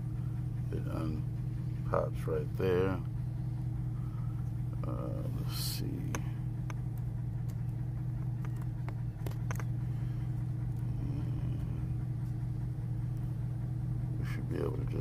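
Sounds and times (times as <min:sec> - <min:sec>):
vehicle running hum: 0:00.0 - 0:15.0.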